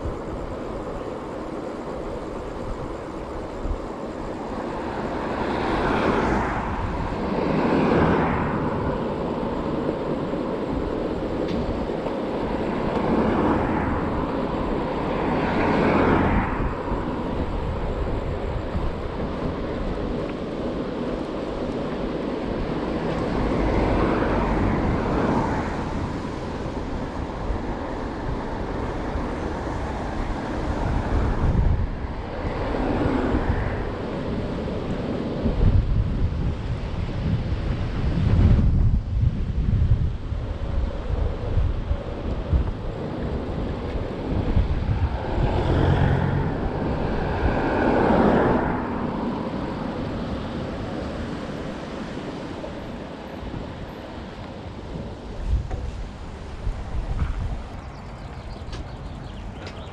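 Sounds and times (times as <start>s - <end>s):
cars passing: 0.0s - 59.9s
tyre road noise: 0.0s - 59.9s
wind on microphone: 0.0s - 59.9s.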